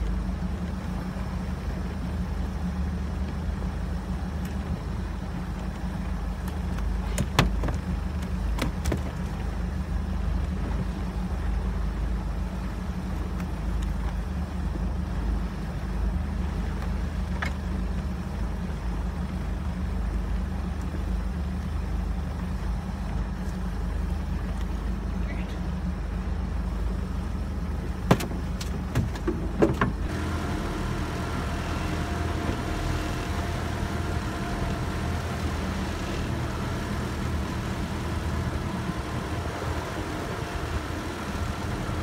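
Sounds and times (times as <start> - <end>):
boat engine rumbling: 0.0 - 42.0.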